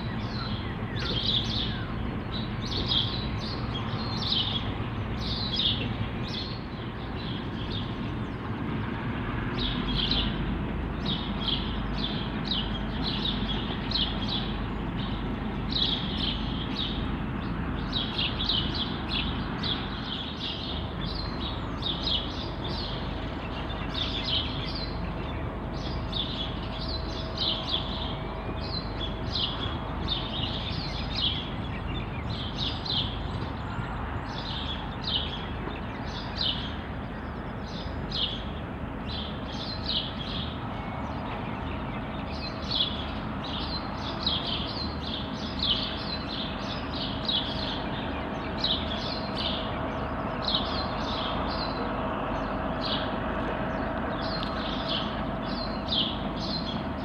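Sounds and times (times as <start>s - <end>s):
birds chirping: 0.0s - 57.0s
train rumble: 0.0s - 57.0s.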